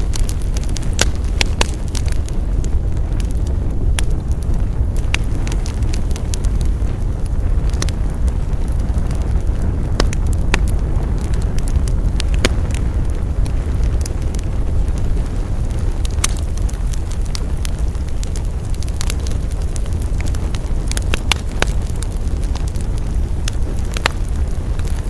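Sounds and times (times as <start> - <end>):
campfire crackling and popping: 0.0 - 25.0
steady low rumble: 0.0 - 25.0.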